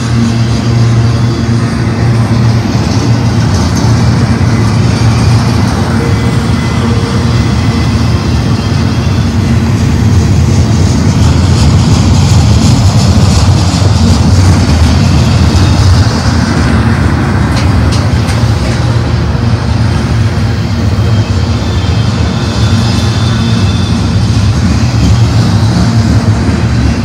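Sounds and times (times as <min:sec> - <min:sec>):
freight train wheels rumbling on rail: 0:00.0 - 0:27.0
train hiss: 0:00.0 - 0:27.0.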